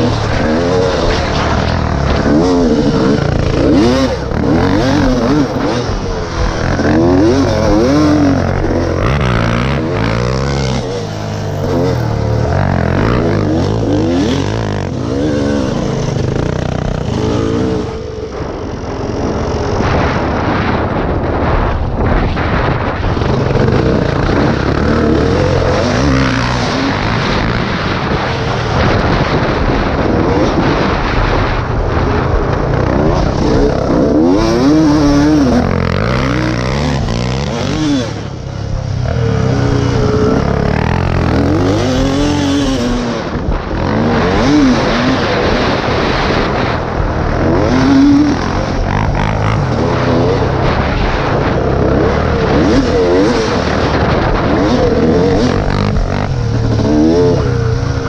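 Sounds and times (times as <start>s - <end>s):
dirt bike engine revving: 0.0s - 58.0s
wind rush: 0.0s - 58.0s.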